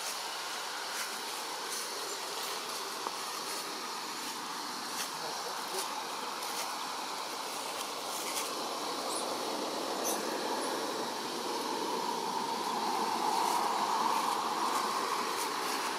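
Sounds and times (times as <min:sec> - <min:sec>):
outdoor background hiss: 0:00.0 - 0:15.9.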